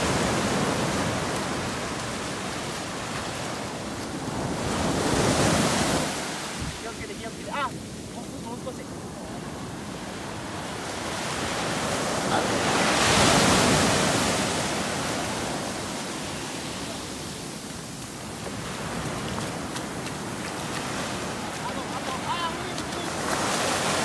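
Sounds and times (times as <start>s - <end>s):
sea waves breaking: 0.0s - 24.0s
surf hiss: 0.0s - 24.0s.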